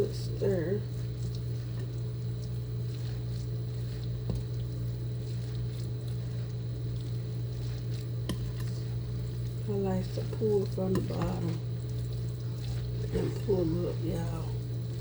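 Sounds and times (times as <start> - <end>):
spoon stirring wet salad: 0.0 - 15.0
steady low hum: 0.0 - 15.0.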